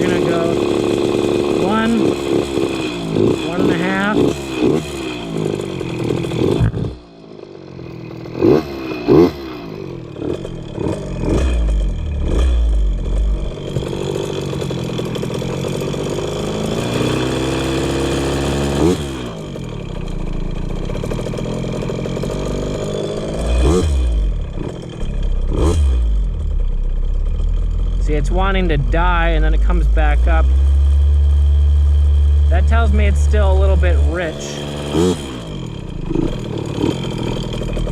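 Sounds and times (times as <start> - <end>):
engine throttle blips: 0.0 - 37.9
two-stroke engine idling unevenly: 0.0 - 37.9.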